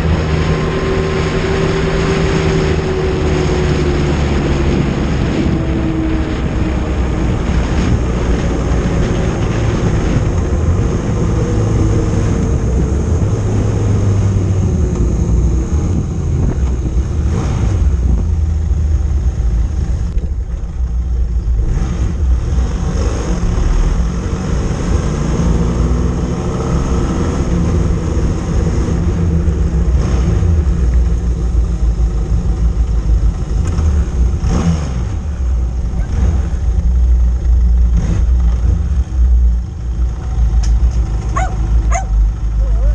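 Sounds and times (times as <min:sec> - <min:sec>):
heavy low rumble: 0:00.0 - 0:42.9
motorcycle engine: 0:00.0 - 0:42.9.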